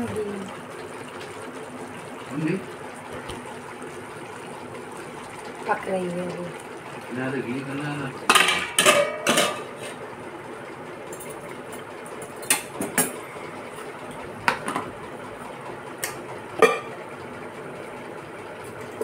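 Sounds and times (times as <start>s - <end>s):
stove hissing: 0.0s - 19.0s.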